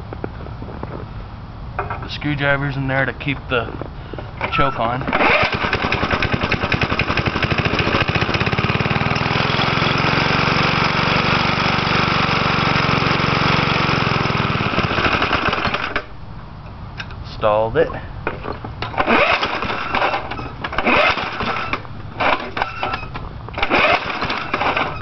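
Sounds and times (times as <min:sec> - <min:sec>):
lawnmower engine running: 0:01.8 - 0:16.2, 0:18.2 - 0:25.0.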